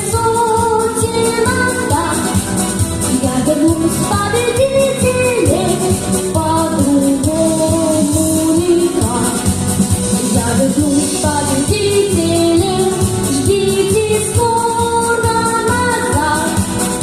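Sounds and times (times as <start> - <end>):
instrumental backing track: 0.0 - 17.0
person singing: 3.1 - 17.0.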